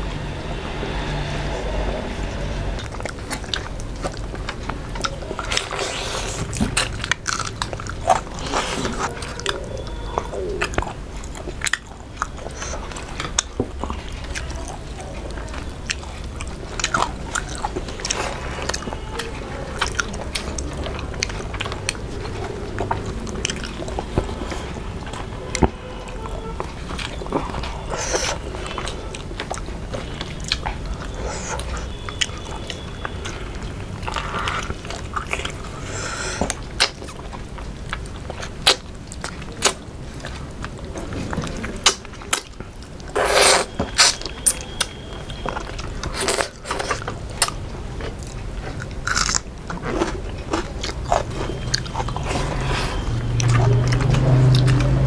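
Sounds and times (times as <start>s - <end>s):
people chewing food: 0.0s - 55.0s
food crunching: 2.3s - 55.0s.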